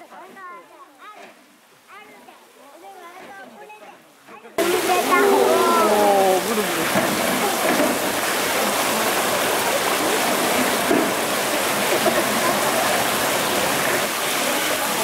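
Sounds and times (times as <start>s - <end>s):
running water rushing: 0.0s - 15.0s
faint voices: 2.5s - 15.0s.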